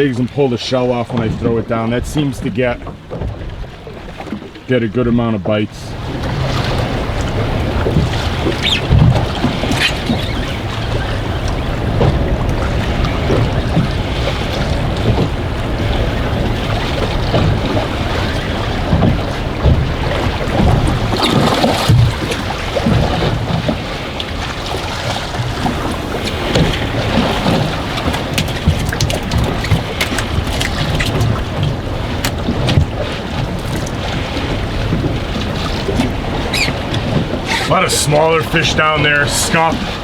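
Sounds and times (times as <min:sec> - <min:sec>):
waves slapping hull: 0:00.0 - 0:40.0
wind buffeting microphone: 0:00.0 - 0:40.0.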